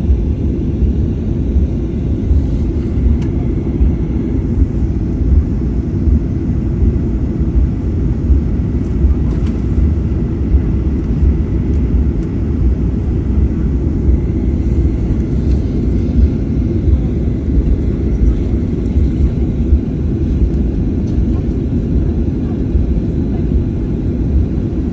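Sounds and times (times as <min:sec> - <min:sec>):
faint steady whine: 0:00.0 - 0:24.9
jet engine rumble in cabin: 0:00.0 - 0:24.9.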